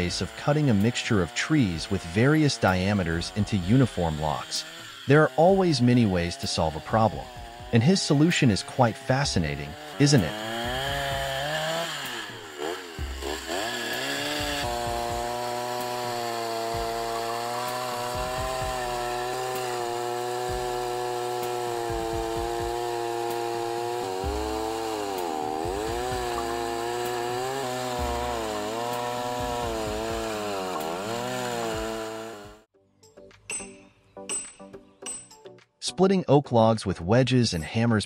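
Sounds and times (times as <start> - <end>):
chainsaw cutting logs: 0.0 - 32.7.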